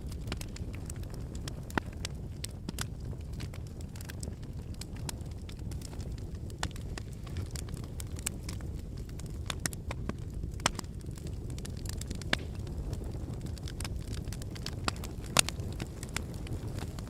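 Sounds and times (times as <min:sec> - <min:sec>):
fire flames rumbling: 0:00.0 - 0:17.0
wood fire crackling and popping: 0:00.0 - 0:17.0.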